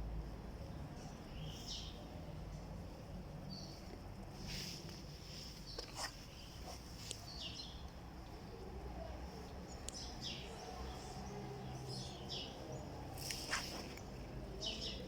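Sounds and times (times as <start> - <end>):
low steady background rumble: 0.0 - 15.0
small birds chirping: 0.6 - 15.0.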